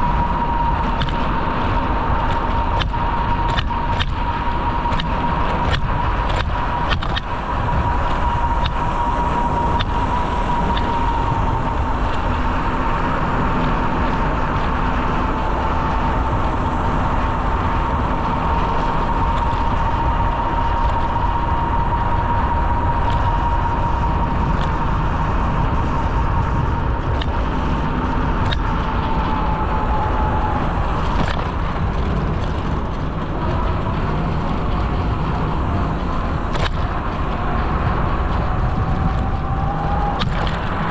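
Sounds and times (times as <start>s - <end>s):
bicycle tyres and wind rumble: 0.0s - 40.9s
light clicks and rattles: 0.0s - 40.9s
steady high hum: 0.0s - 40.9s.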